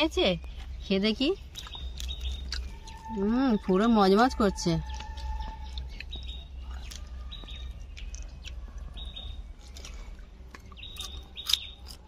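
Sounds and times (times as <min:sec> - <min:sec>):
bird chirping: 0:00.0 - 0:12.0
crunchy chewing: 0:00.4 - 0:12.0.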